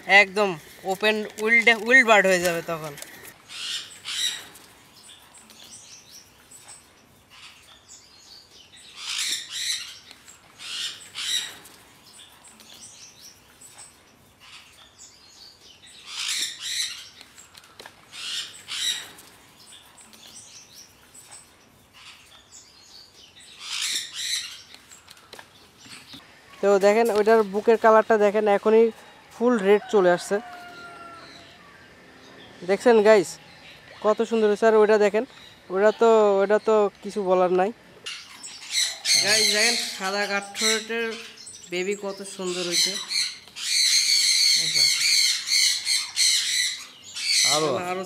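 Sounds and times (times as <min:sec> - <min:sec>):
caged birds chirping and squawking: 0:00.0 - 0:48.0.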